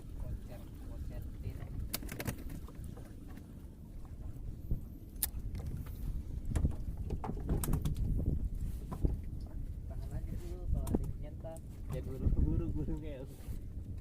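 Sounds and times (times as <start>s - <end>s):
low uneven boat rumble: 0.0s - 14.0s.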